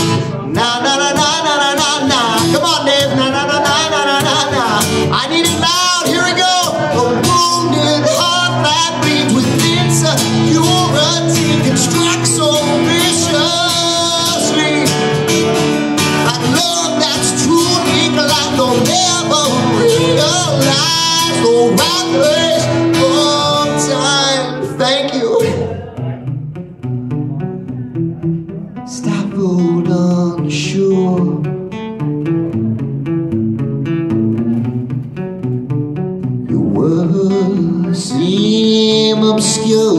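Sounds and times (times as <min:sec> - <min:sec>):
man singing into a microphone: 0:00.0 - 0:26.3, 0:28.8 - 0:31.8, 0:36.4 - 0:39.9
acoustic guitar strumming: 0:00.0 - 0:39.9.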